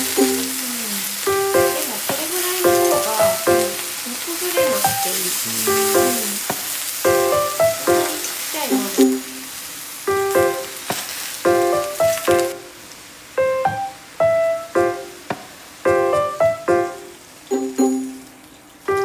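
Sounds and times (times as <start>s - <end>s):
food sizzling in frying pan: 0.0s - 19.0s
piano music: 0.0s - 19.0s.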